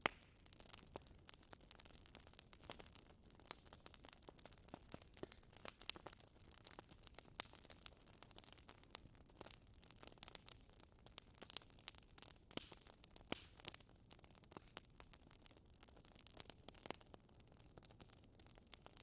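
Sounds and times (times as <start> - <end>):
wood fire crackling faintly: 0.0 - 19.0.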